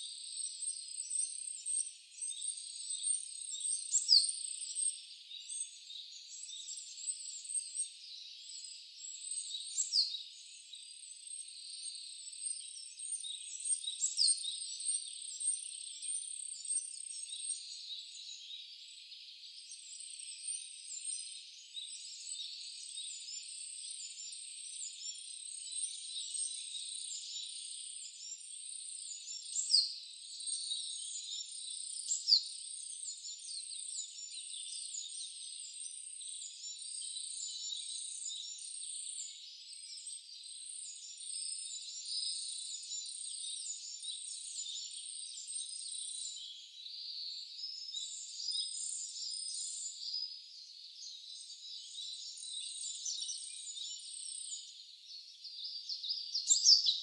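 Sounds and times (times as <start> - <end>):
wild birds chirping and singing: 0.0 - 57.0.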